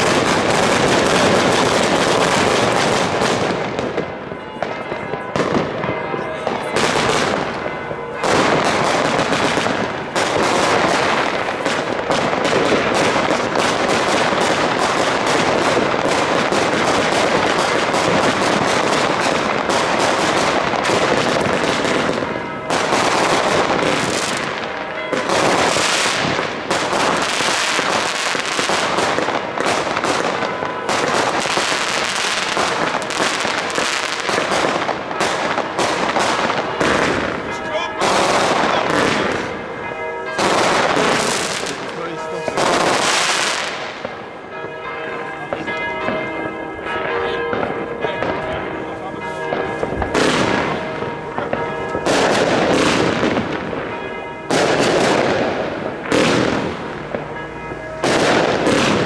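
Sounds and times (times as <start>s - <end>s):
fireworks firing and crackling: 0.0s - 44.8s, 45.4s - 59.0s.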